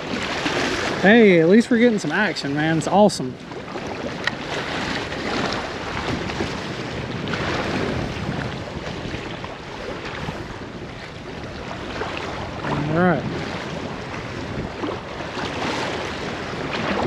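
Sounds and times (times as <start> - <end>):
waves washing against seawall: 0.0 - 17.0
wind buffeting microphone: 0.0 - 17.0.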